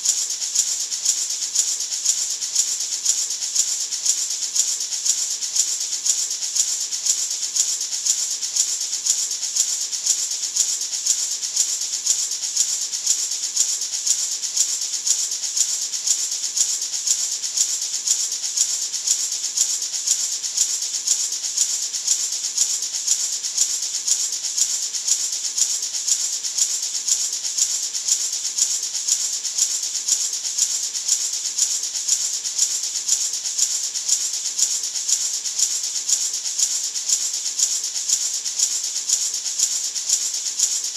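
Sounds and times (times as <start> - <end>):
gourd maraca rattling: 0.0 - 40.9.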